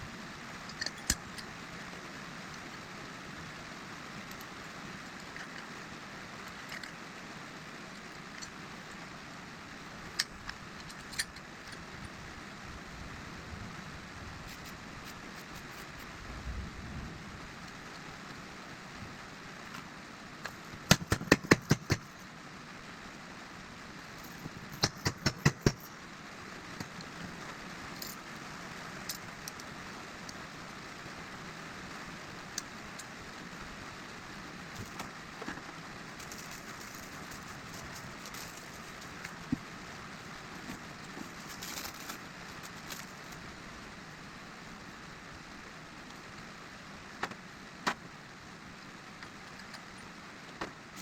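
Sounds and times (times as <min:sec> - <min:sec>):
steady hiss: 0:00.0 - 0:51.0.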